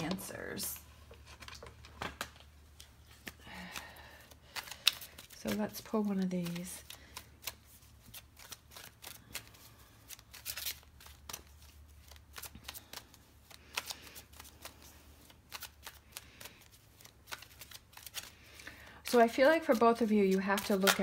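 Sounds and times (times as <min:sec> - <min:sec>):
cards being shuffled: 0:00.0 - 0:21.0.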